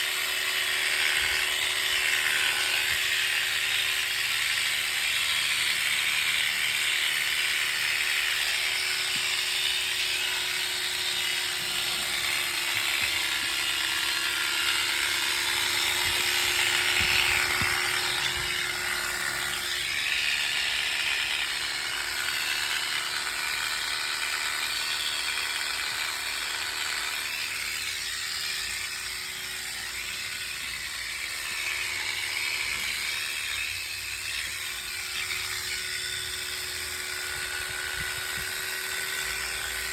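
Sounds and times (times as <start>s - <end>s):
electric clipper buzzing: 0.0s - 39.9s.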